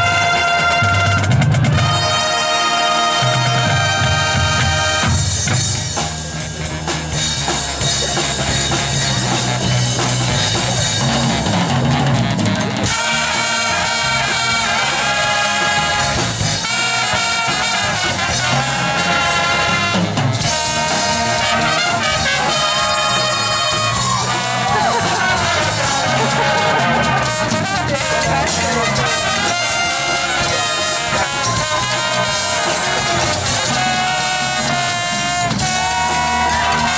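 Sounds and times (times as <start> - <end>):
marching band playing: 0.0 - 36.9.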